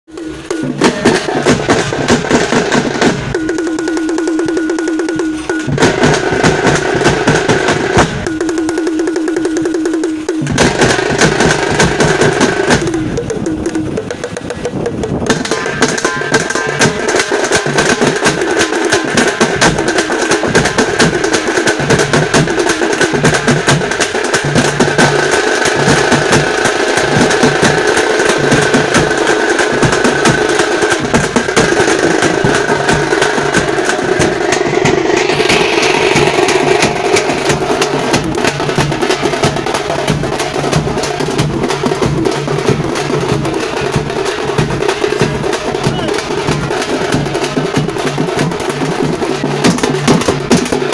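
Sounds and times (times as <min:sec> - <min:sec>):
frame drums beaten with sticks: 0:00.1 - 0:50.9.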